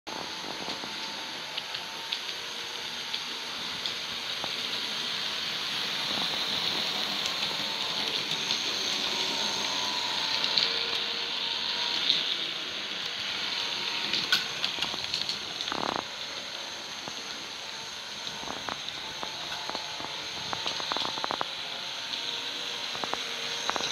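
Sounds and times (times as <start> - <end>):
model train motors whirring: 0.1 - 23.9
wheels rolling on track: 0.1 - 23.9.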